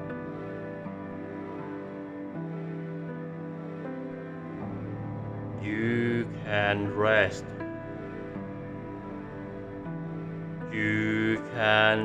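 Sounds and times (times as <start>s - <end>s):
slow soft string-like music: 0.0s - 12.0s.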